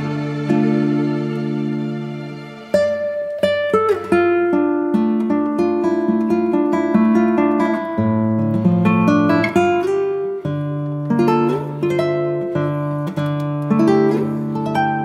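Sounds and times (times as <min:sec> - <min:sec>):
plucked acoustic guitar melody: 0:00.0 - 0:15.0.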